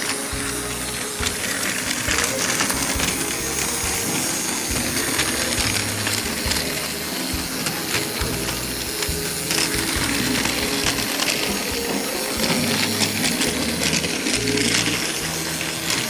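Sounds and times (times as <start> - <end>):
fast clicking gears: 0.0 - 16.0
toy train motor running: 0.0 - 16.0.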